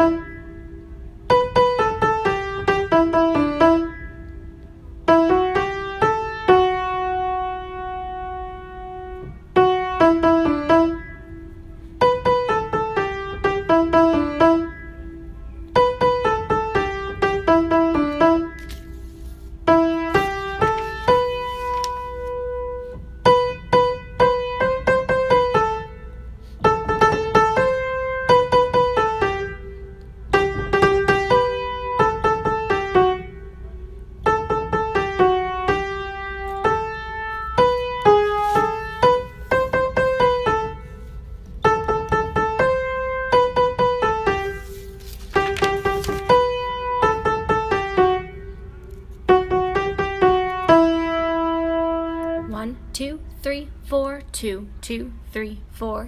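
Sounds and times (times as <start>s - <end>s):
solo piano melody: 0.0s - 52.6s.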